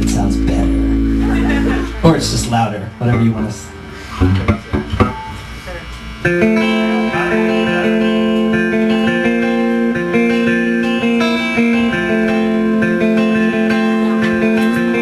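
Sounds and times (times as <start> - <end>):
electric guitar strumming chords: 0.0 - 15.0
live band playing: 0.0 - 15.0.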